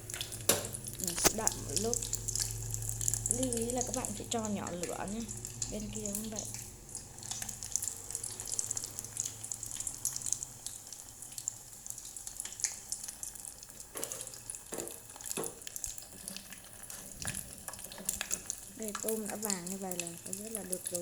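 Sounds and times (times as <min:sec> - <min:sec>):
oil popping: 0:00.0 - 0:21.0
shrimp deep-frying in oil: 0:00.0 - 0:21.0.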